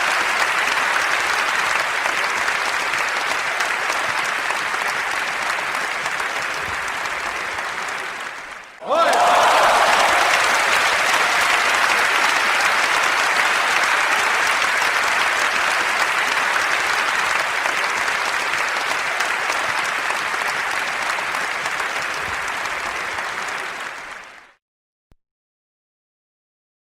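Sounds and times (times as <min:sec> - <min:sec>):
crowd applauding: 0:00.0 - 0:24.6.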